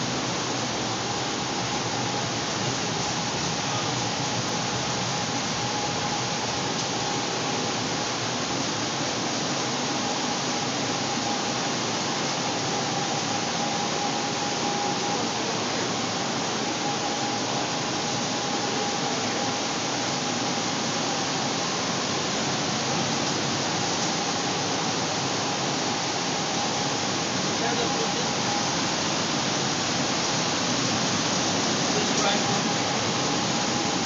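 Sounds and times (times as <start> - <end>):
cooling fans rushing air: 0.0 - 34.0
faint steady whine: 0.0 - 34.0.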